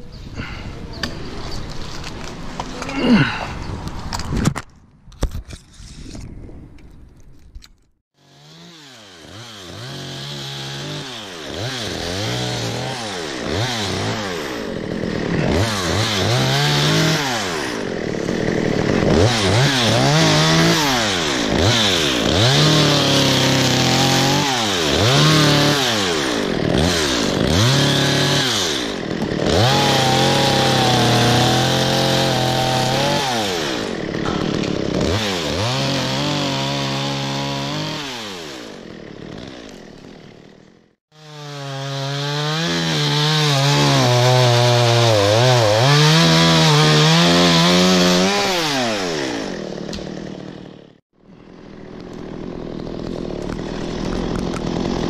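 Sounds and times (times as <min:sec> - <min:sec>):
chainsaw revving and cutting: 0:08.2 - 0:55.0.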